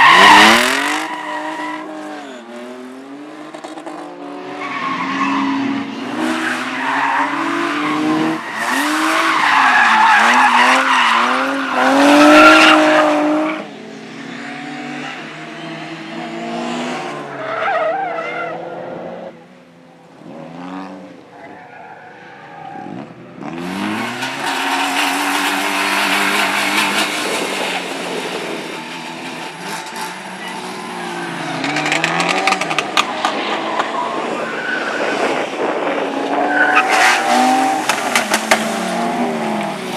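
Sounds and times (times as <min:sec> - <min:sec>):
rally car engines revving: 0:00.0 - 0:19.4, 0:22.2 - 0:39.9
rushing tyre noise: 0:00.0 - 0:19.4, 0:20.1 - 0:39.9.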